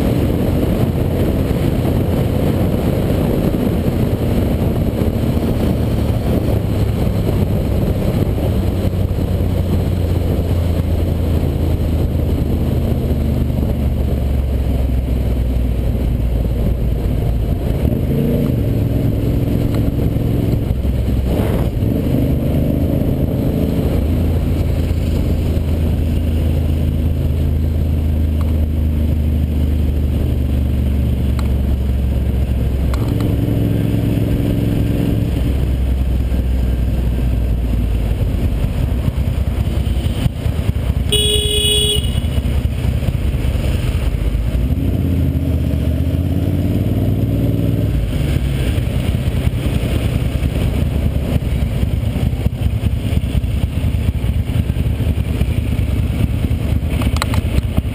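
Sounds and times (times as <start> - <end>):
motorcycle engine cruising: 0.0 - 57.9.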